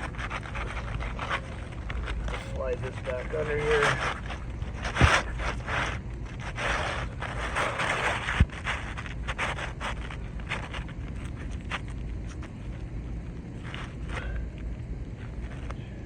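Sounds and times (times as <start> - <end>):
roofing shingle scraping: 0.0 - 16.0.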